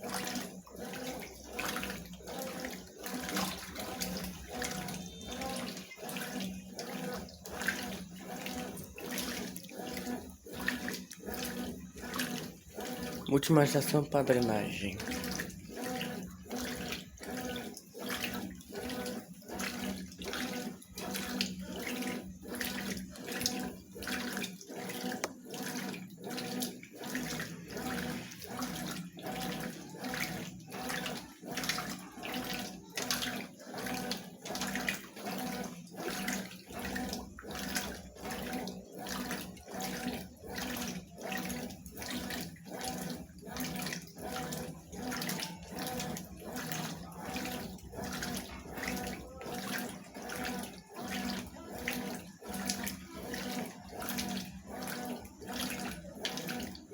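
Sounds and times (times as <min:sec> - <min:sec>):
washing machine hum and sloshing: 0:00.0 - 0:56.9.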